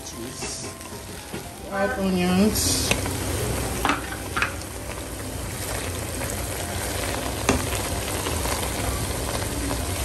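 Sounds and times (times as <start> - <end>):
rice sizzling in a pot: 0.0 - 10.0.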